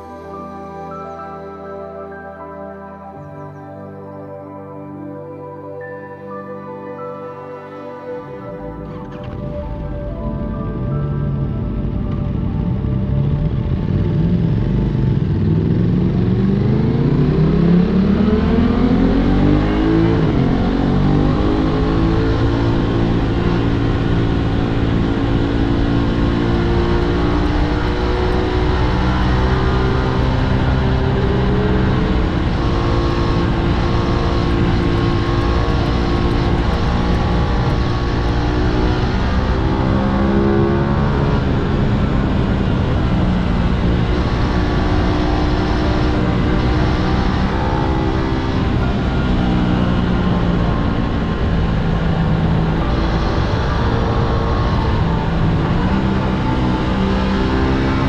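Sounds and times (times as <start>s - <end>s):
motorcycle engine accelerating: 8.6s - 58.0s.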